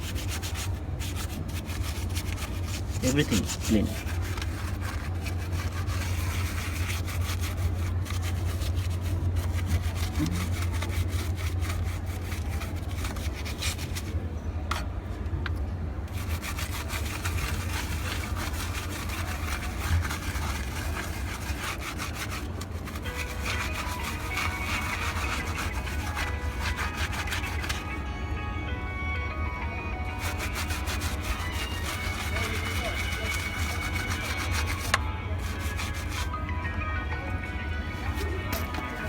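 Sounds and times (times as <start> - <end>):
brush scrubbing circuit board: 0.0 - 14.2, 16.1 - 28.0, 30.0 - 36.4.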